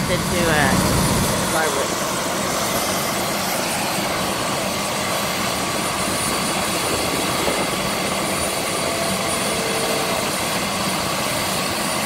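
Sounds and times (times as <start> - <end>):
helicopter turbine engine running: 0.0 - 12.0.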